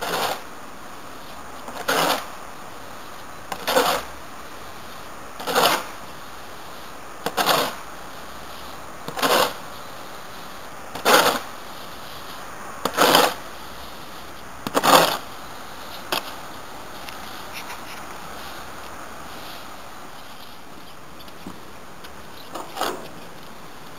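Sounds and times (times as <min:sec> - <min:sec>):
shovel scraping dry substrate: 0:00.0 - 0:23.9.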